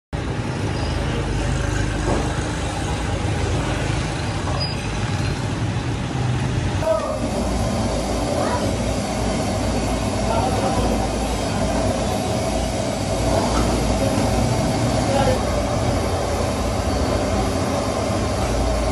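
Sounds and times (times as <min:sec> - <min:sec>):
street background rumble: 0:00.2 - 0:18.9.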